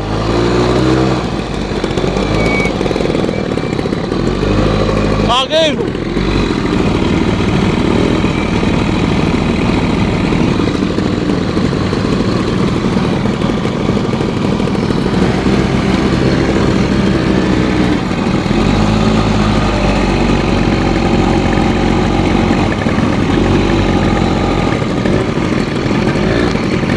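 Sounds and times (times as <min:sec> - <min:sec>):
atv engine revving: 0:00.0 - 0:26.9.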